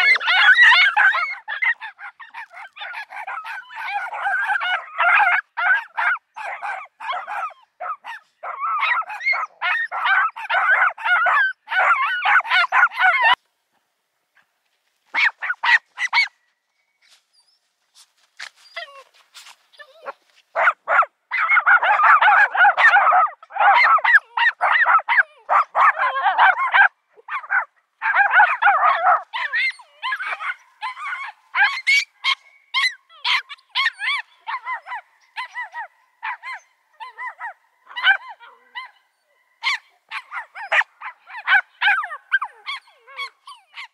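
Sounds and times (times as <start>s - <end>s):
small dogs barking: 0.0s - 13.4s, 15.1s - 16.4s, 19.8s - 43.9s.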